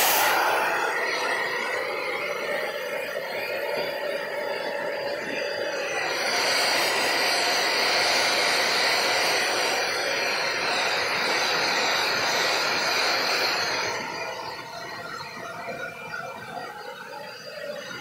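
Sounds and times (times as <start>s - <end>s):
hair dryer blowing: 0.0s - 16.3s.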